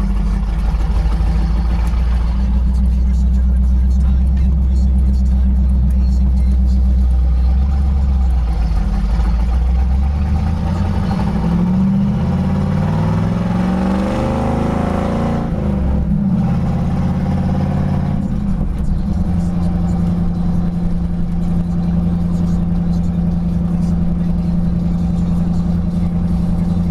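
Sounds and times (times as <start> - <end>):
truck engine with straight-piped exhaust: 0.0 - 26.9.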